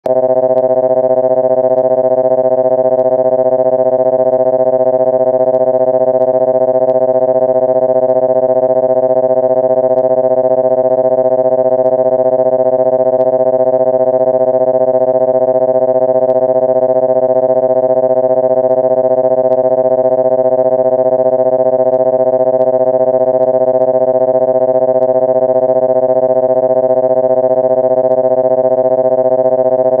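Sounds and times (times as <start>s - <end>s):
steady synthesized tone: 0.1s - 30.0s.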